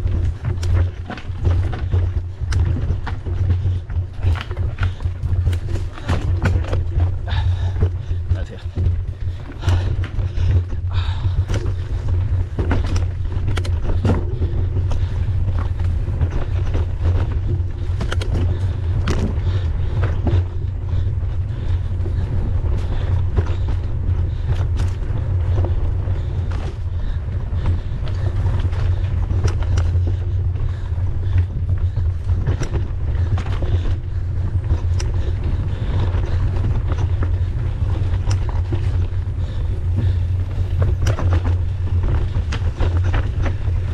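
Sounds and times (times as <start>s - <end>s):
bike rattling and knocking: 0.0s - 43.9s
wind rumble on microphone: 0.0s - 43.9s.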